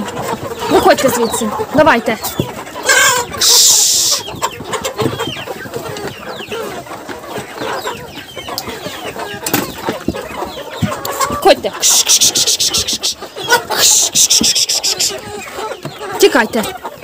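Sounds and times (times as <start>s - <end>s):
chickens clucking and peeping: 0.0s - 17.0s.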